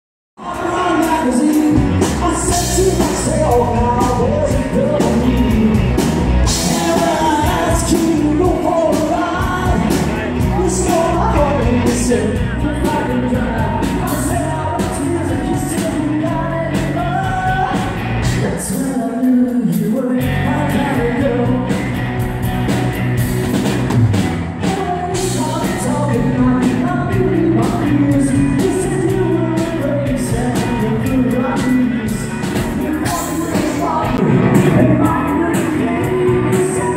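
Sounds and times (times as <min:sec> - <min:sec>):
man singing: 0:00.4 - 0:22.0, 0:24.5 - 0:36.9
live country band playing: 0:00.4 - 0:36.9.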